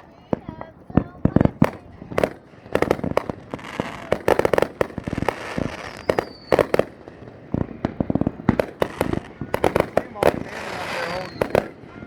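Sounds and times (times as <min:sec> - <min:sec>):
firework whistling: 0:00.0 - 0:12.0
fireworks bangs and pops: 0:00.0 - 0:12.0
fireworks crackling: 0:00.0 - 0:12.0.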